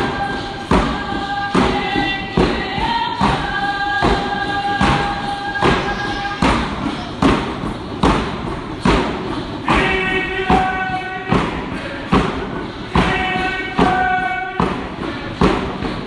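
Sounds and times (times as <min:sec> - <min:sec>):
voices singing: 0:00.0 - 0:08.2, 0:08.9 - 0:16.0
frame drums beating: 0:00.0 - 0:16.0.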